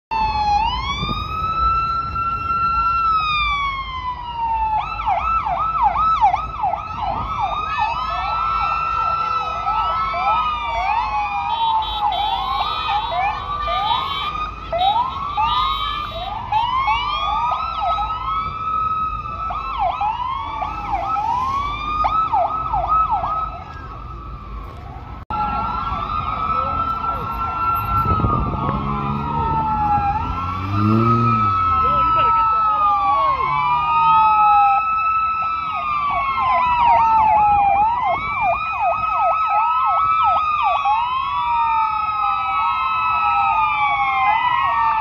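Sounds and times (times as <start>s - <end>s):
police sirens wailing and yelping: 0.1s - 45.0s
traffic rumble: 0.1s - 45.0s.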